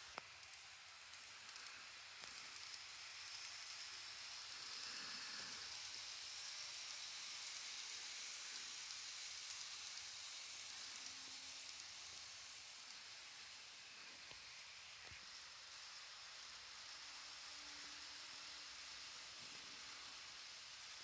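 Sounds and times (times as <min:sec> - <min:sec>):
model train wheels hissing on rail: 0:00.0 - 0:21.0.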